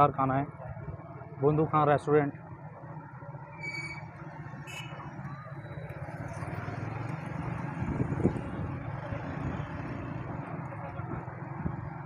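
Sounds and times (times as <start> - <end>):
street traffic noise: 0.0 - 12.0
car engines running: 2.3 - 12.0.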